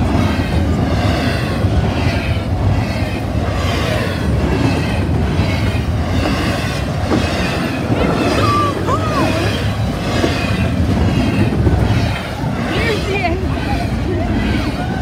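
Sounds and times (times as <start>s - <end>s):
train rumbling past: 0.0s - 15.0s
wheels clattering over rails: 0.0s - 15.0s.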